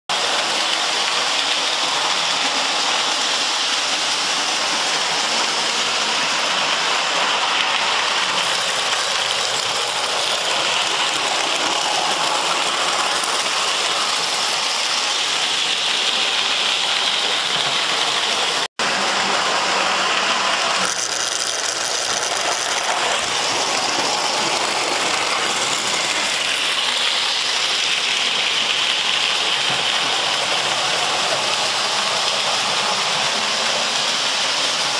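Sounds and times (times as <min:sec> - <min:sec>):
model train running on track: 0:00.1 - 0:34.9.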